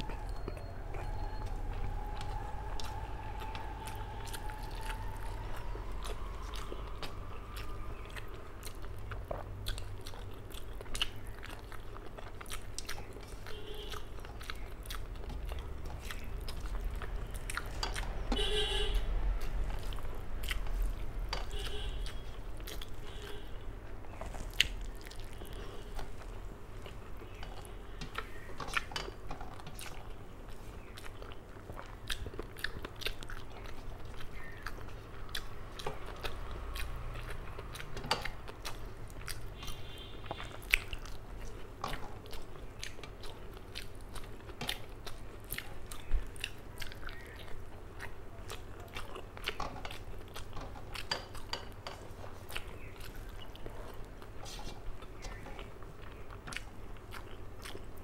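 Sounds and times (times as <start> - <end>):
wet open-mouthed chewing: 0.0 - 58.0
lip and tongue clicks: 6.0 - 18.3, 19.0 - 23.4, 24.3 - 58.0.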